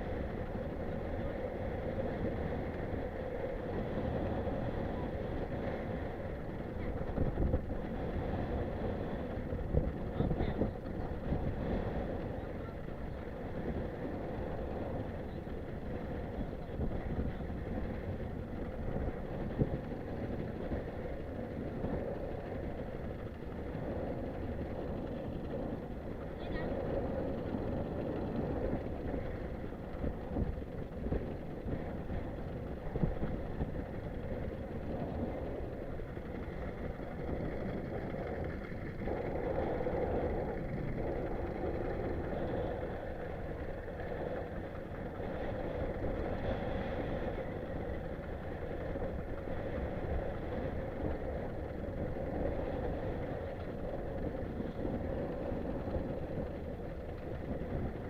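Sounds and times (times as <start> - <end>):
boat engine running: 0.0 - 58.0
wind buffeting microphone: 0.0 - 58.0.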